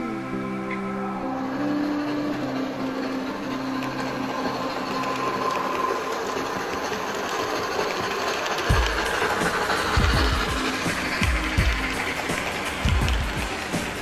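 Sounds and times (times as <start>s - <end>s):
background music: 0.0s - 14.0s
faint whine: 0.0s - 14.0s
model train motor whirring: 0.0s - 14.0s
wheels rumbling on track: 0.0s - 14.0s.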